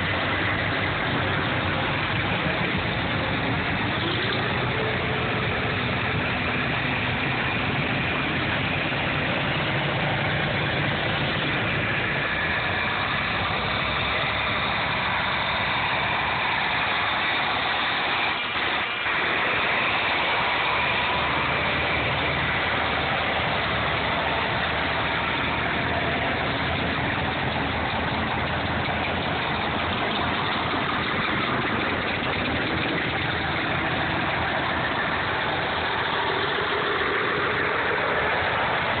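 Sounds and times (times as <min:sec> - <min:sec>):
tractor engines driving past: 0:00.0 - 0:39.0.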